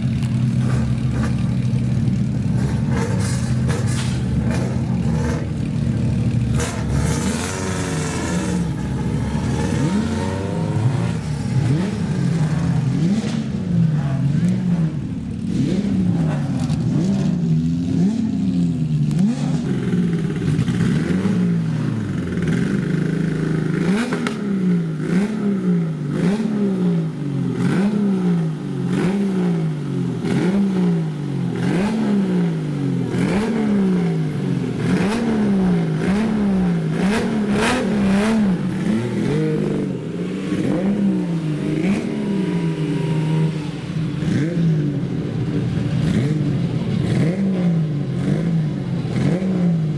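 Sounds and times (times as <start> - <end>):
racing car engine revving: 0.4 - 49.9.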